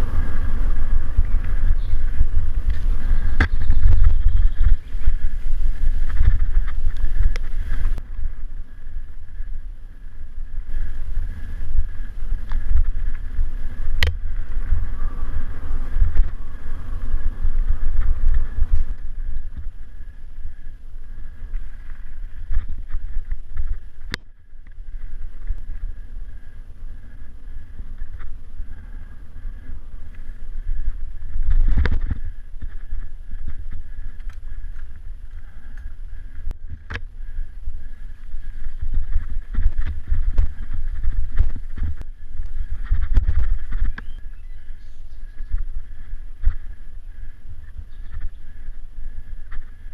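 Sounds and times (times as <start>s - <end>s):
bike tyres on rough ground: 0.0s - 49.9s
wind on microphone: 0.0s - 49.9s.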